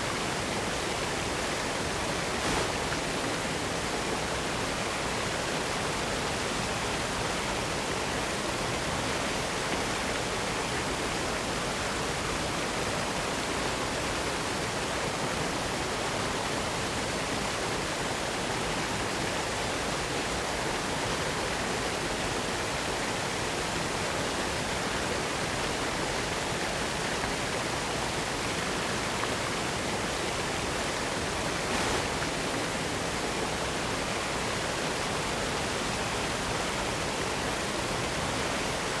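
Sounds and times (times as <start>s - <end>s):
waterfall rushing over rock: 0.1s - 39.0s.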